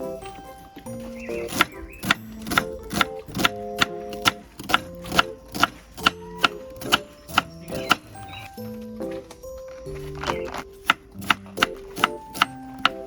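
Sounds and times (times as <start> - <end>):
crisp clicking beat: 0.0 - 13.0
light cute tune: 0.0 - 13.0.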